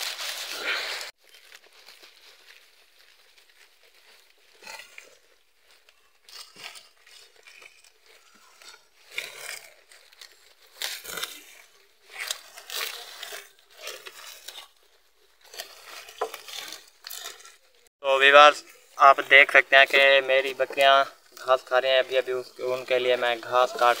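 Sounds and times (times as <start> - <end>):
goats eating grass: 0.0 - 24.0.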